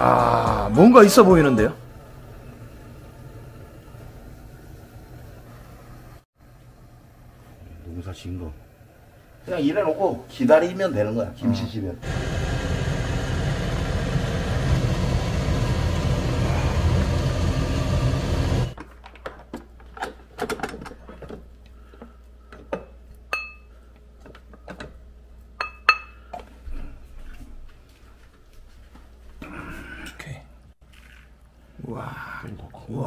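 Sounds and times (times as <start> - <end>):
mechanical kitchen hum: 0.0 - 32.0.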